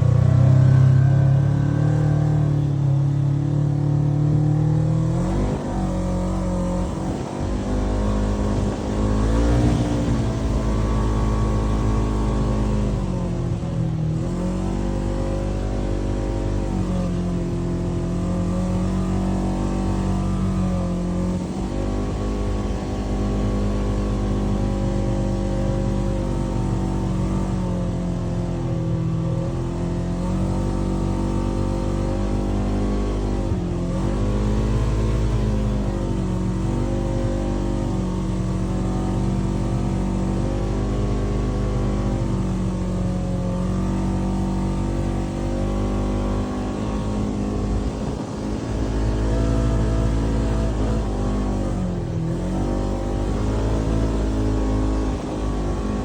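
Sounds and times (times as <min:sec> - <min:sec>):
engine revving under load: 0:00.0 - 0:56.0.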